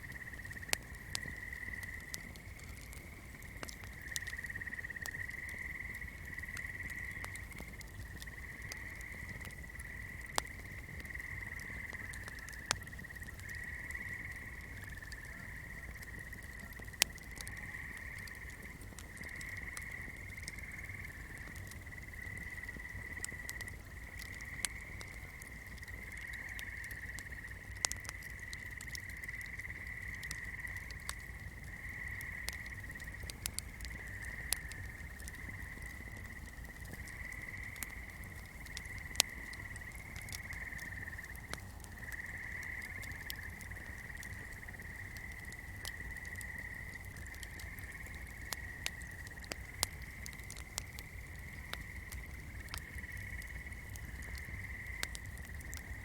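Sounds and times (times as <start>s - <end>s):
candle flame crackling and popping: 0.0s - 56.0s.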